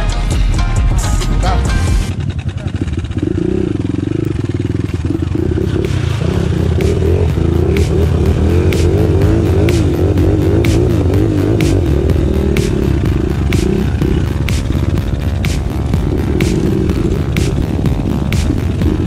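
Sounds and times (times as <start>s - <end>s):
music: 0.0s - 2.1s, 5.4s - 19.0s
dirt bike engine revving: 1.5s - 19.0s.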